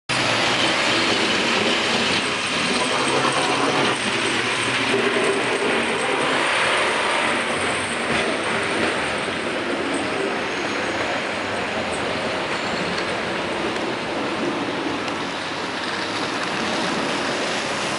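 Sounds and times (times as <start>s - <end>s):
traffic: 0.1s - 17.9s.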